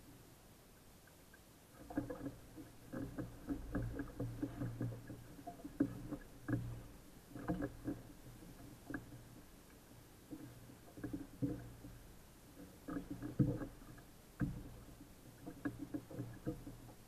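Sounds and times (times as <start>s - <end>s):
knocks and thumps on boat: 1.8s - 9.6s, 10.2s - 17.0s.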